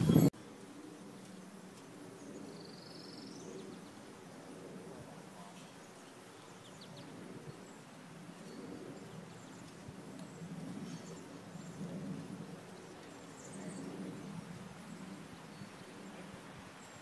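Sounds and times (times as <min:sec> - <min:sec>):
low steady murmur: 0:00.0 - 0:17.0.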